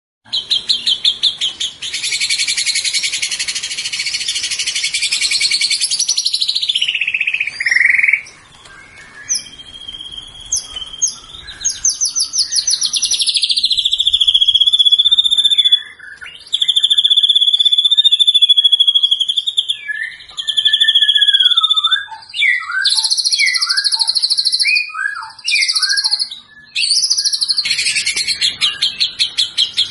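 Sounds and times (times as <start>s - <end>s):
bird singing varied song: 0.3s - 29.9s.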